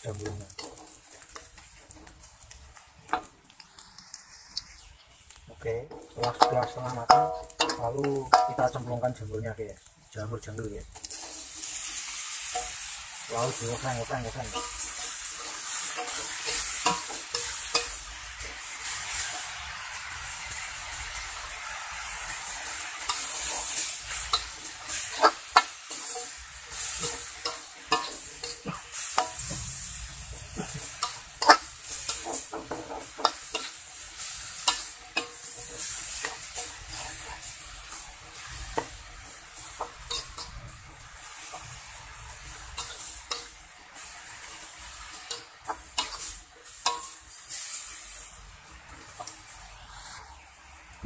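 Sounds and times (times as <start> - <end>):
mushrooms sizzling in a wok: 0.0 - 51.0
metal spatula scraping a pan: 0.1 - 2.5, 5.9 - 9.2, 11.0 - 50.3.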